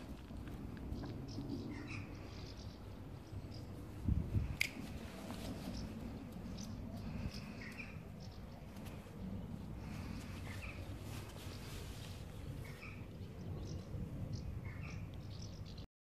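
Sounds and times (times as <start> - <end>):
steady low rumble: 0.0 - 15.8
distant bird chirps: 0.0 - 15.9.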